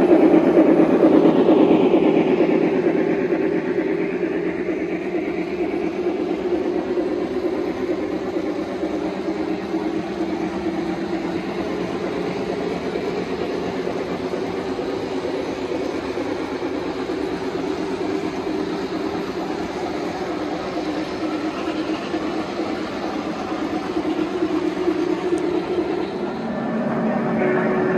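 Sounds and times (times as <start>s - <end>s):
model train wheels rumbling on track: 0.0s - 27.9s.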